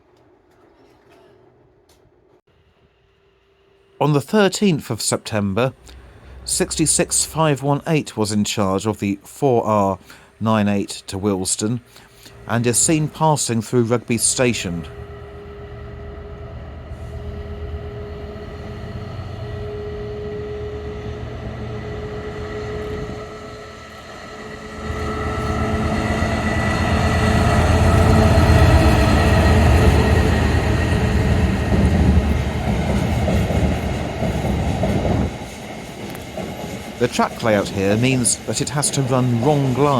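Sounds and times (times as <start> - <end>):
diesel locomotive passing: 3.2 - 39.9.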